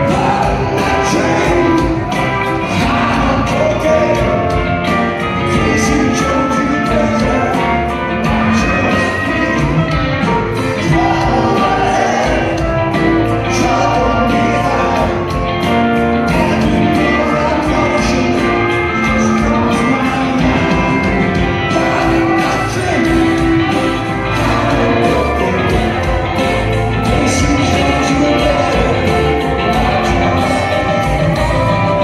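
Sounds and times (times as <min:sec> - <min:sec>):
drums: 0:00.0 - 0:32.0
guitar: 0:00.0 - 0:32.0
person singing: 0:00.0 - 0:32.0
upright bass: 0:00.0 - 0:32.0.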